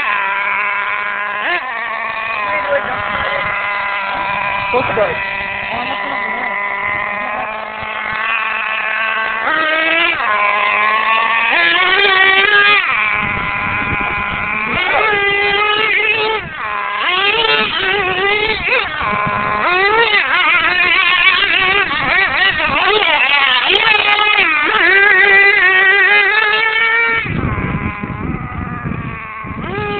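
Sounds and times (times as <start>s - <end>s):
toy truck motor revving: 0.0s - 29.9s.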